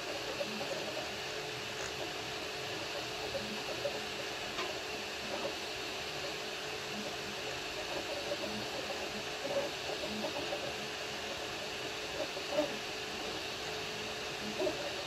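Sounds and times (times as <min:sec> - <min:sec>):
cooling fan hiss: 0:00.0 - 0:15.0.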